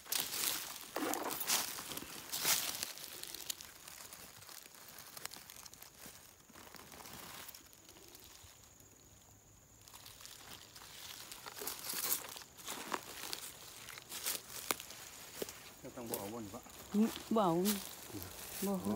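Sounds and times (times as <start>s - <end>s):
dry leaves crackling and rustling: 0.0s - 18.9s.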